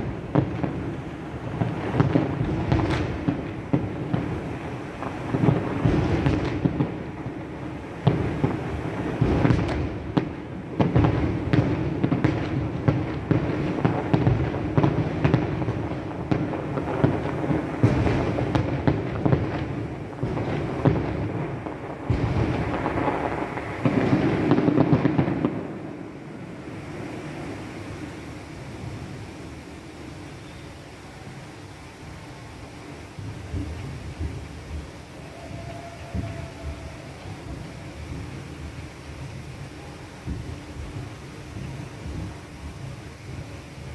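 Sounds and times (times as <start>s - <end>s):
firework bangs and crackles: 0.0s - 43.9s.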